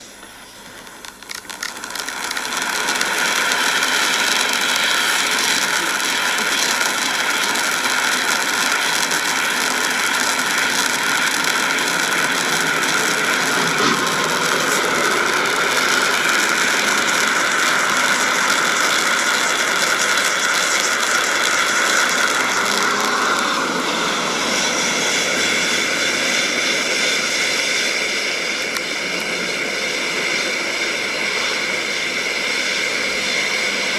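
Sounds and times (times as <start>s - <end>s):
firework fountain hissing and crackling: 0.0s - 33.9s.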